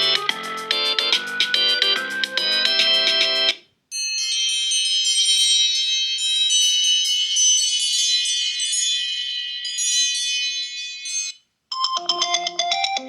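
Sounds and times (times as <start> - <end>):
chime-like bell ringtone: 0.0 - 13.0.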